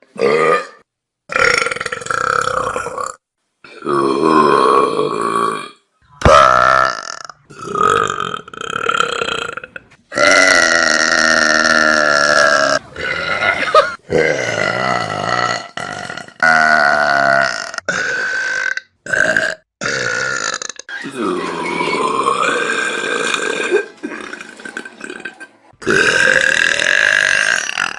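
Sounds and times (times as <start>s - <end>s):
people burping: 0.2s - 27.9s.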